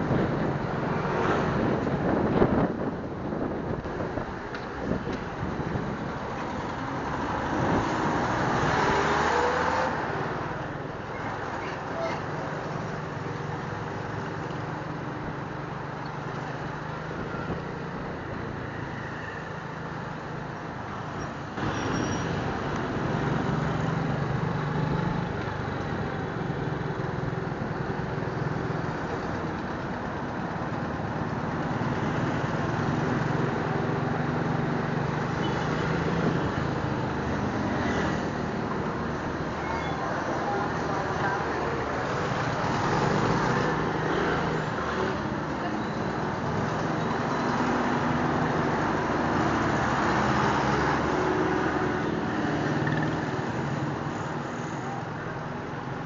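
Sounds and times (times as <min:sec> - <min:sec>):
road and traffic noise: 0:00.0 - 0:56.0.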